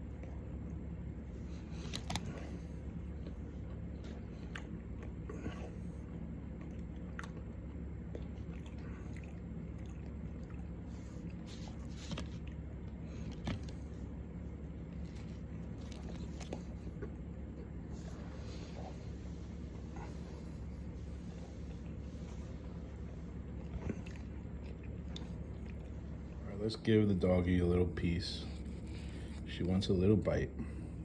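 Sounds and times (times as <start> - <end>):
man chewing food: 0.0 - 26.4, 28.4 - 29.5
steady low hum: 0.0 - 31.0.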